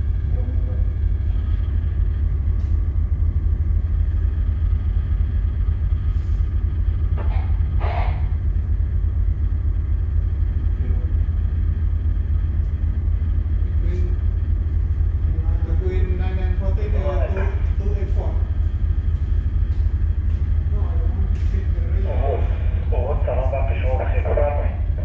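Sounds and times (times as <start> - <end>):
faint equipment hum: 0.0 - 25.0
ship engine rumble: 0.0 - 25.0.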